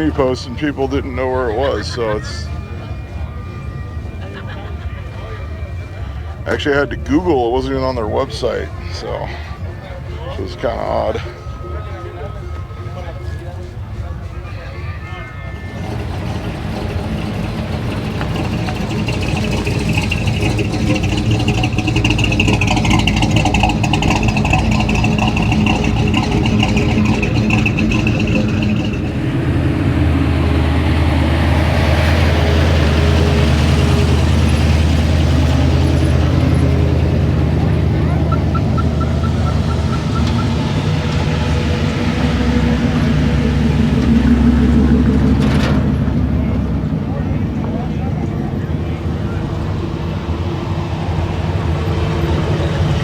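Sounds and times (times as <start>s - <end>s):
vehicle engine running: 0.0s - 14.4s, 15.5s - 53.0s.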